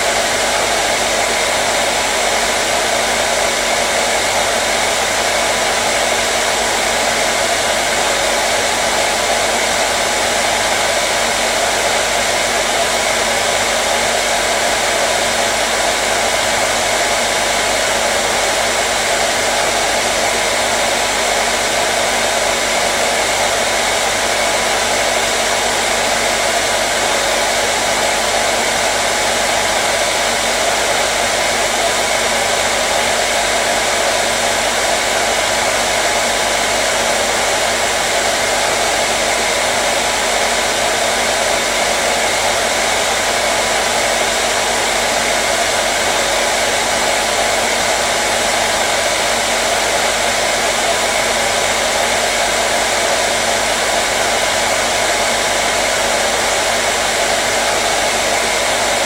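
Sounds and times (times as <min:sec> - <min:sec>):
hair dryer blowing air: 0:00.0 - 0:59.0.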